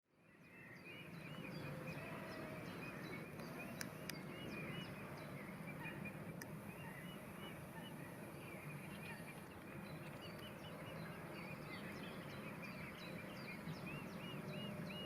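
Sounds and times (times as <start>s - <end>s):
lovebirds chirping: 0.4s - 15.0s.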